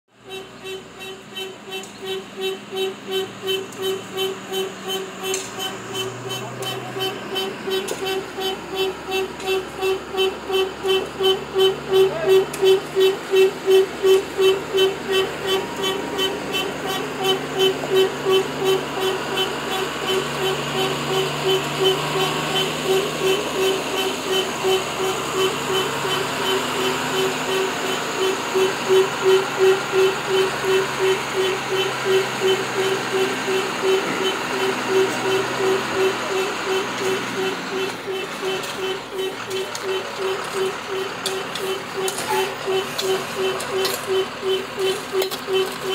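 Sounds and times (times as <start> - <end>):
diesel engine drone: 0.1 - 45.9
truck reversing alarm beeping: 0.1 - 45.9.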